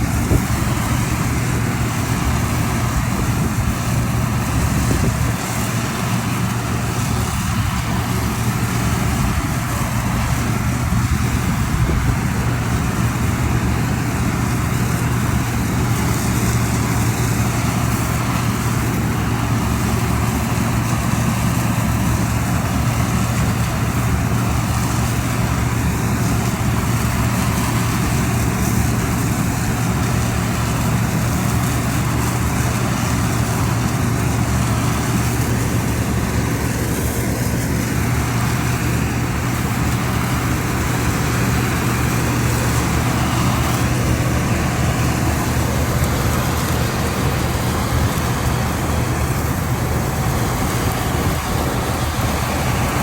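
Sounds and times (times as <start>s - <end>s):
harvesting machine engine running: 0.0s - 53.0s.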